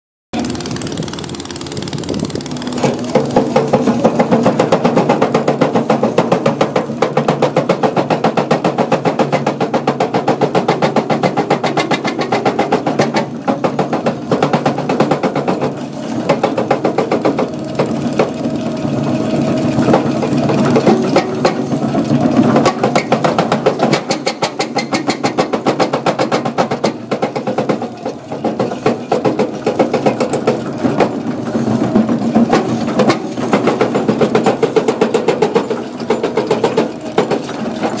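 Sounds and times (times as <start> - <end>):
excavator engine running: 0.3 - 38.0.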